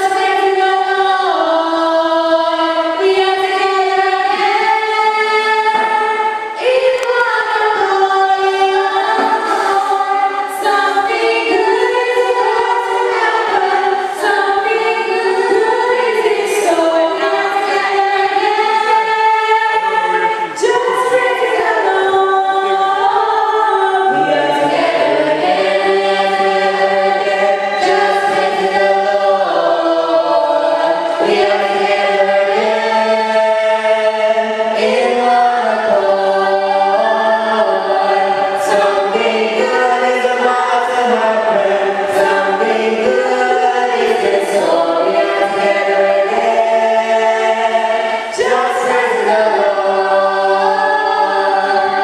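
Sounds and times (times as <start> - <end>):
congregation singing a hymn: 0.0 - 52.0.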